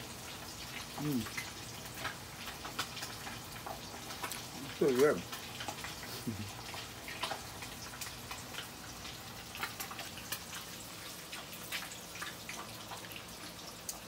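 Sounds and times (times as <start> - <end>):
oil sizzling in a wok: 0.0 - 14.0.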